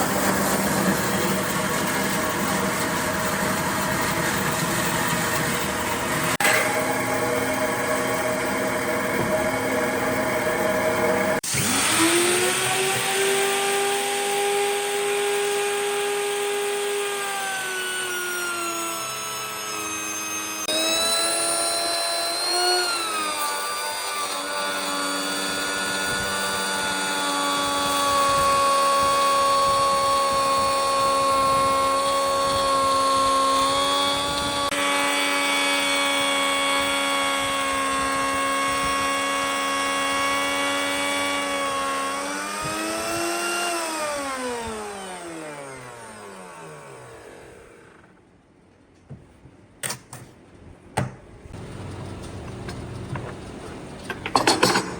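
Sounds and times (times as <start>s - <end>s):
power tool motor whining: 0.0s - 48.2s.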